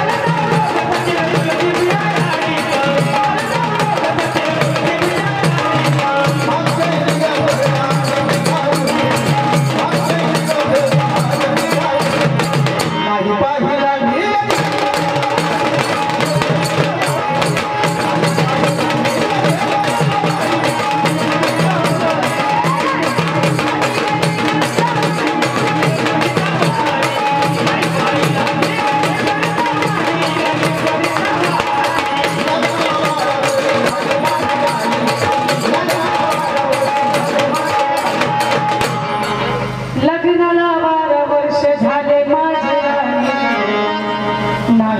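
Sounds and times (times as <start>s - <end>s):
drum played fast with sticks: 0.0s - 40.3s.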